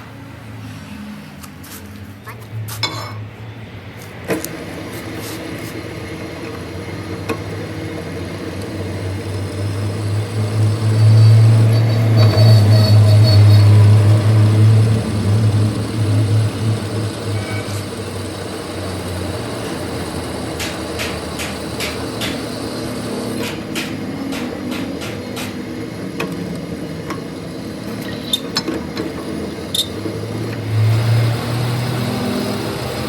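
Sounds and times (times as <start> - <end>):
workshop machine humming: 0.0 - 33.0.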